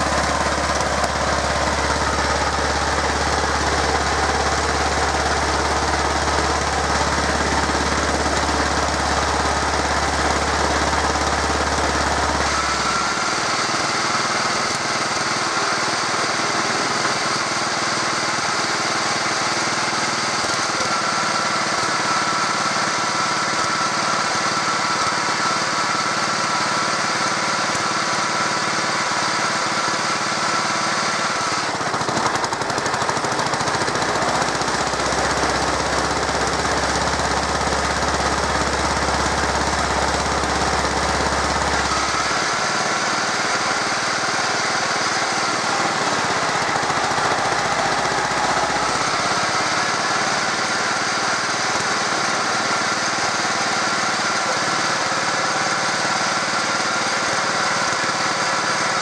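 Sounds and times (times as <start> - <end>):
engine and belt drive running: 0.0 - 59.0.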